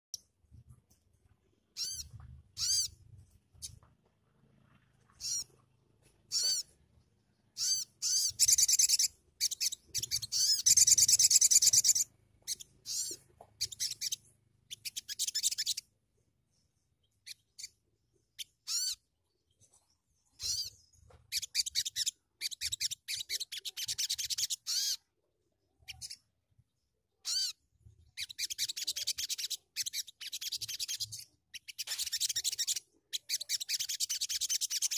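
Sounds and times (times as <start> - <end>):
songbird chirping and trilling: 0.1 - 34.9.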